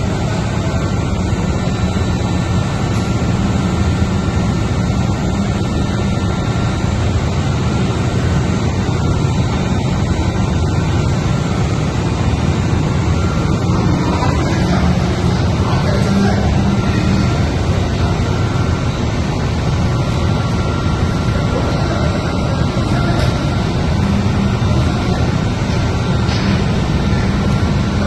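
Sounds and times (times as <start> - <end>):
engine-room machinery drone: 0.0 - 28.0.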